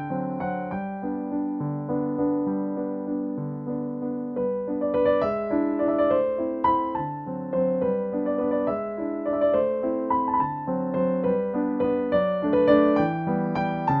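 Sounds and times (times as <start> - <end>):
keyboard melody over chords: 0.0 - 14.0.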